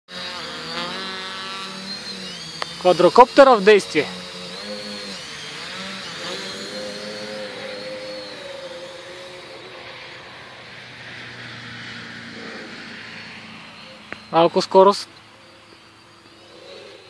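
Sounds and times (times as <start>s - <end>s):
drone propellers whining: 0.1s - 17.0s.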